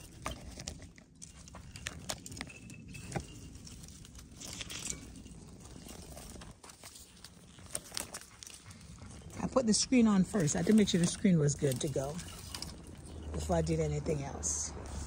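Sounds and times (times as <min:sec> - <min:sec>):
hand working soil crackles: 0:00.0 - 0:15.0.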